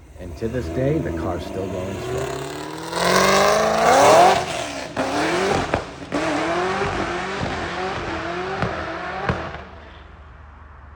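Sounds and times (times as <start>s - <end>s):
car engine accelerating hard: 0.0s - 9.9s
sharp exhaust cracks: 0.0s - 10.2s.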